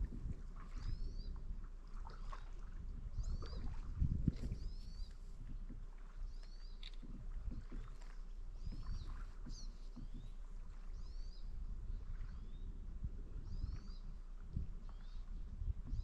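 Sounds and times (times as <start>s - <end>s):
paddle swishing through water: 0.0s - 16.0s.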